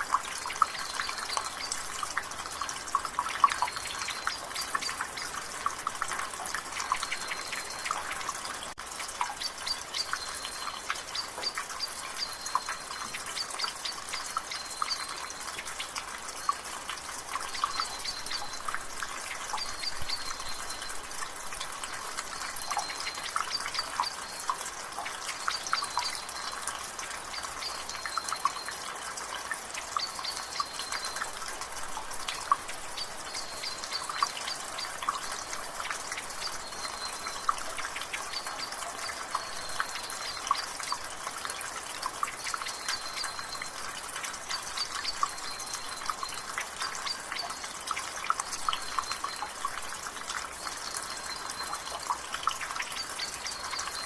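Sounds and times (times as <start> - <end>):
light rain hiss: 0.0 - 54.0
water dripping from gutter: 0.0 - 54.0.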